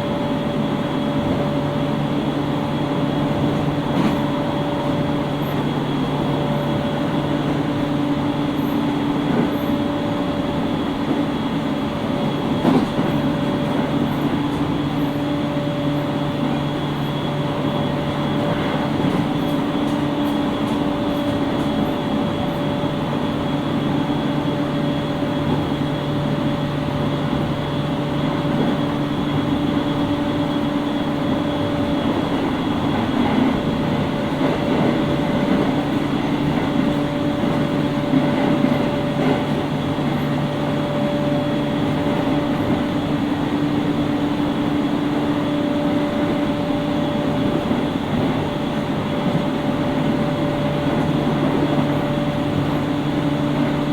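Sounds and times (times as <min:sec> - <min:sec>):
wheels rumbling on rail: 0:00.0 - 0:53.9.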